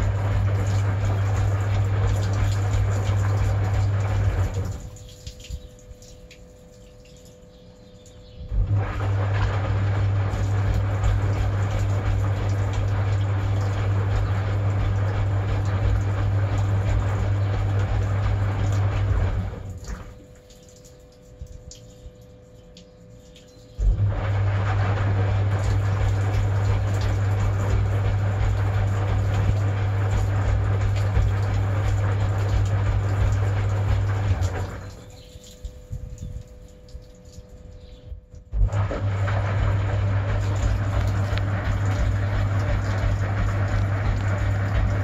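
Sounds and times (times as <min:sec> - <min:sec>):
washing machine motor humming: 0:00.0 - 0:45.0
water sloshing in drum: 0:00.0 - 0:45.0.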